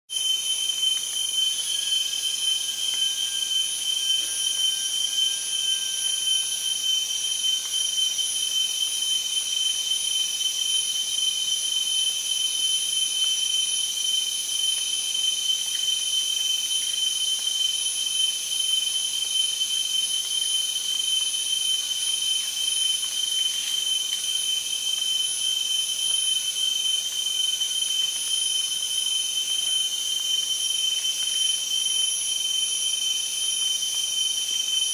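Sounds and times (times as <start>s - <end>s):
forest insects chorus: 0.1s - 34.9s.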